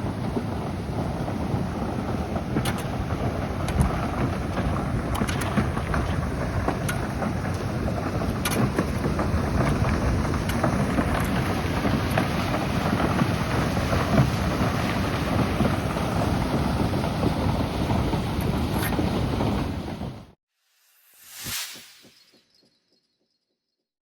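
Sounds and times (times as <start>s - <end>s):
floodwater rushing down driveway: 0.0s - 20.0s
heavy rain: 0.0s - 20.3s
wind buffeting microphone: 0.0s - 20.3s.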